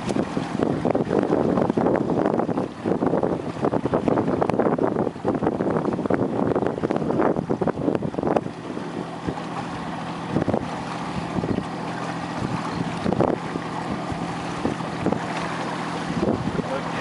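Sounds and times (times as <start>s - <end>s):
boat motor running: 0.0s - 17.0s
wind buffeting microphone: 0.0s - 17.0s.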